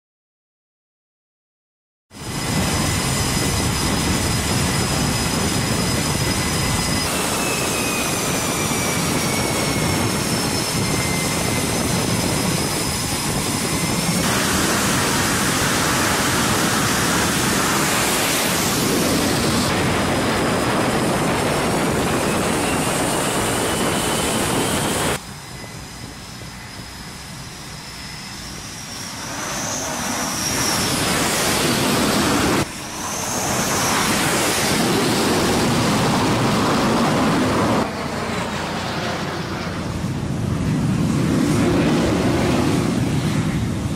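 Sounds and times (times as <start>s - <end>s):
jet engines running: 2.1s - 43.9s.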